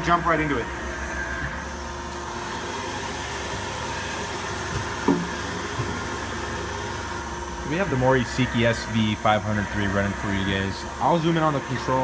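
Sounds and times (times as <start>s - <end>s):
faint machine whining: 0.0s - 12.0s
machine humming: 0.0s - 12.0s.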